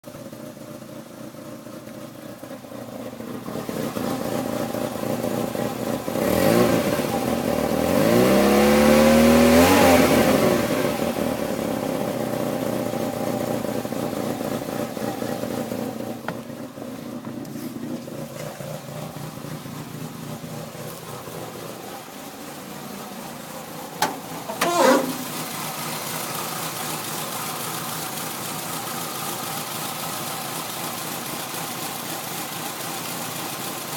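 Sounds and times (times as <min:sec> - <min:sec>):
car engine rough idle and revving: 0:00.0 - 0:33.9.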